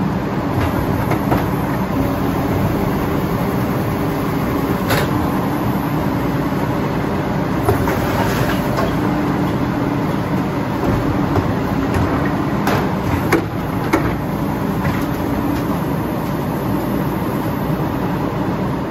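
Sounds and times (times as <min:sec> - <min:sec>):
garbage truck running: 0:00.0 - 0:18.9.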